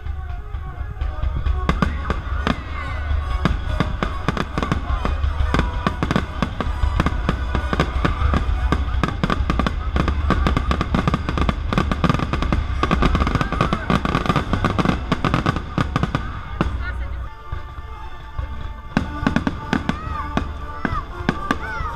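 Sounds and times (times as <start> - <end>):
orchestral music: 0.0 - 21.9.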